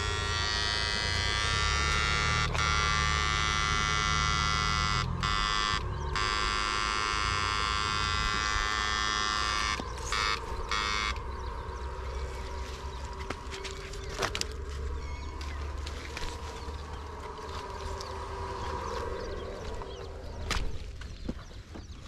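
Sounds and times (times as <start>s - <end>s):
high electric whine: 0.0s - 21.3s.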